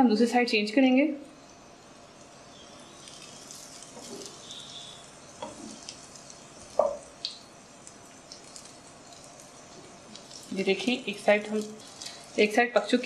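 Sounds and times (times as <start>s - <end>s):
bread sizzling in hot oil: 1.6s - 13.0s.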